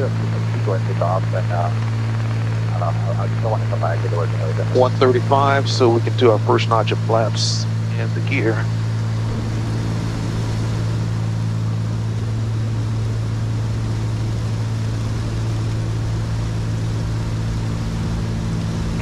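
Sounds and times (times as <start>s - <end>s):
aircraft engine drone in cabin: 0.0s - 19.0s.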